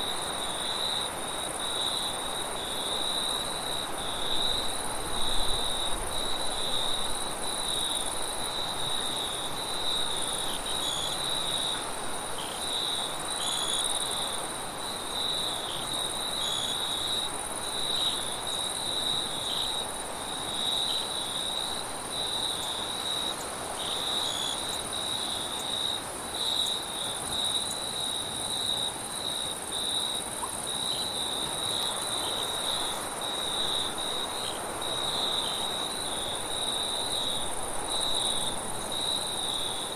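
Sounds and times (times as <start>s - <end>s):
crickets chirping: 0.0s - 39.9s
high insect whine: 0.0s - 39.9s.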